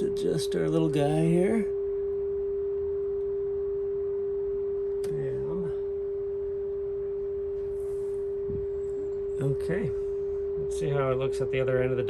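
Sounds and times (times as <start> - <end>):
steady pure test tone: 0.0 - 12.0.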